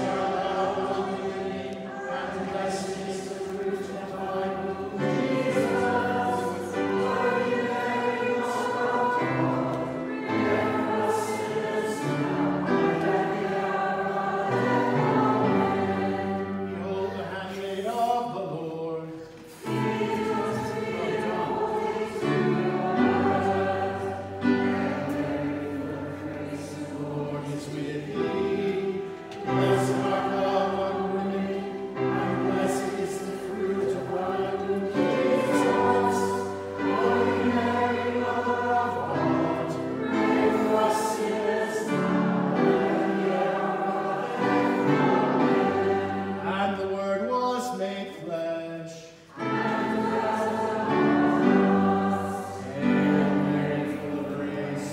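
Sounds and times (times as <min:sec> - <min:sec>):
group singing a hymn: 0:00.0 - 0:54.9.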